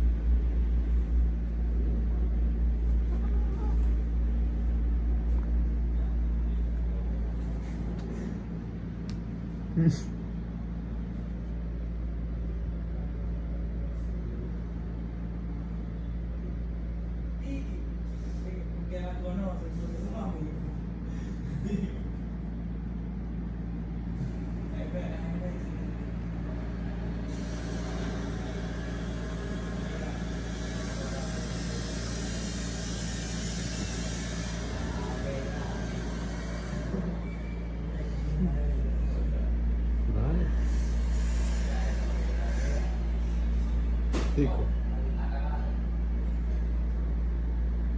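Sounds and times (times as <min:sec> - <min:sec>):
low machine hum: 0:00.0 - 0:47.9.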